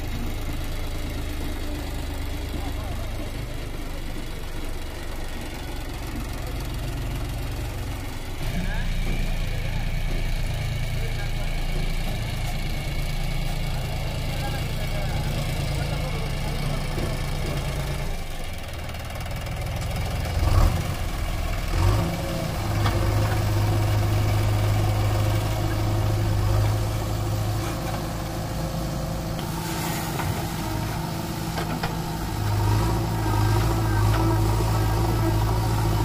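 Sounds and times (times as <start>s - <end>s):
diesel engine under load: 0.0s - 36.0s.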